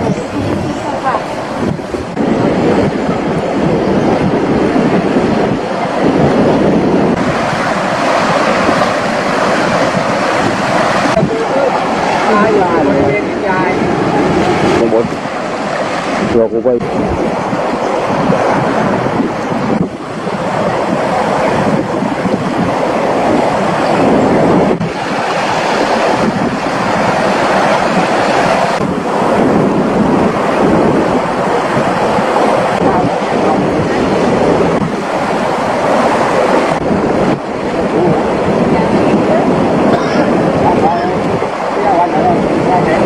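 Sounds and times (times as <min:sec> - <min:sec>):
waves breaking on rocks: 0:00.0 - 0:43.0
wind buffeting microphone: 0:00.0 - 0:43.0.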